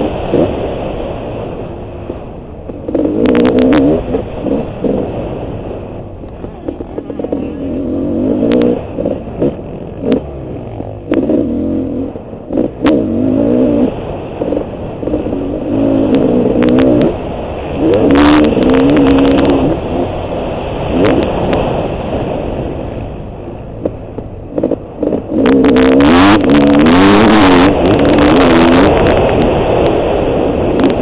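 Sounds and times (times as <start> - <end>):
motocross engine revving: 2.6 - 30.0, 30.7 - 31.0.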